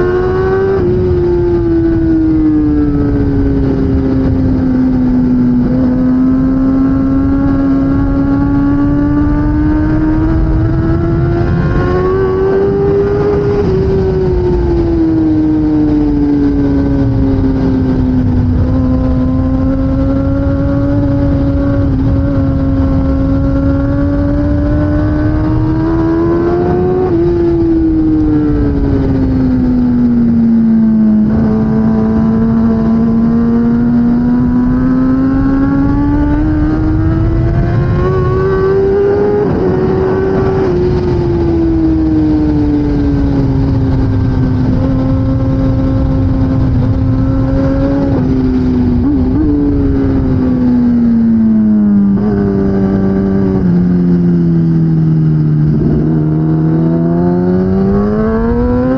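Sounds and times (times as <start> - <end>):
motorcycle engine at race pace: 0.0 - 58.9.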